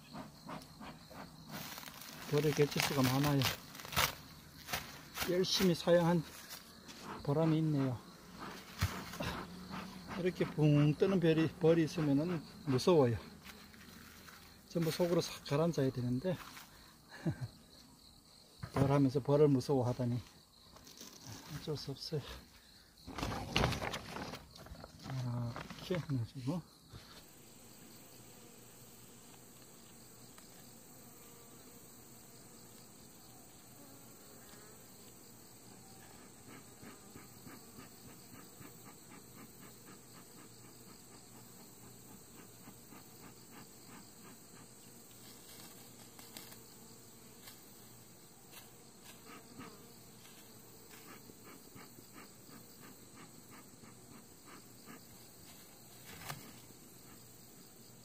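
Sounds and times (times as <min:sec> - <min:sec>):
honeybees buzzing: 0:00.0 - 0:19.8, 0:26.6 - 0:58.0.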